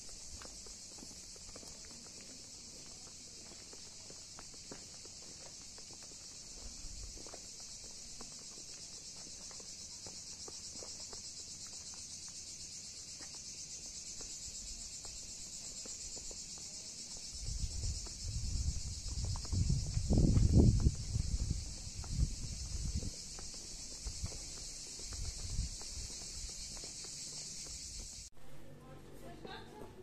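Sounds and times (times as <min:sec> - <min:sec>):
insects chirring: 0:00.0 - 0:28.3.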